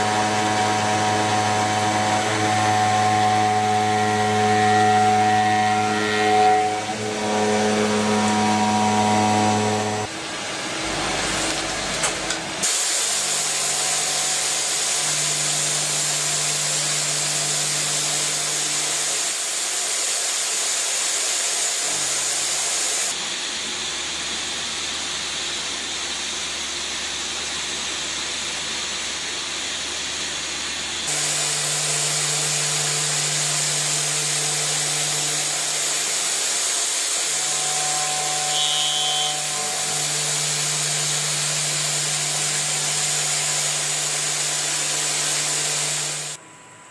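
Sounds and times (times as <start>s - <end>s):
milling machine spindles running: 0.0s - 46.4s
hissy metal cutting noise: 0.0s - 46.9s.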